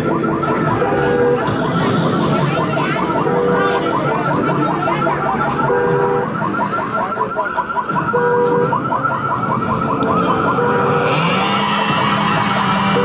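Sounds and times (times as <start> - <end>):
electronic alarm siren warbling: 0.0 - 13.0.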